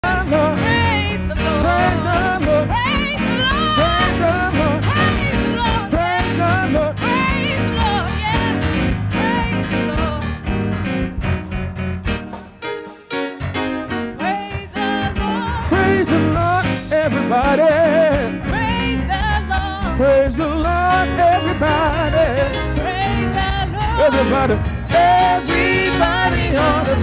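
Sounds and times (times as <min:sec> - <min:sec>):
person singing gospel: 0:00.0 - 0:10.4, 0:14.2 - 0:27.0
live band with bass line: 0:00.0 - 0:27.0.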